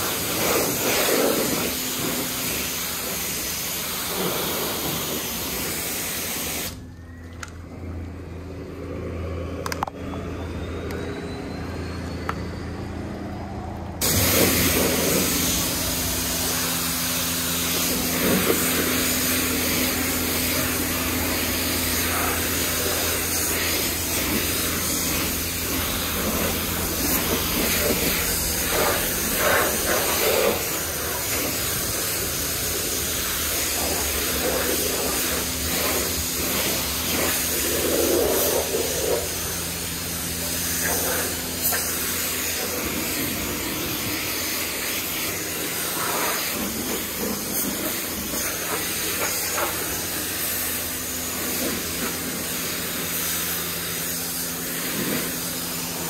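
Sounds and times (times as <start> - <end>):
pressure washer spray hissing: 0.0 - 6.8, 14.0 - 56.0
steady low hum: 6.8 - 56.0.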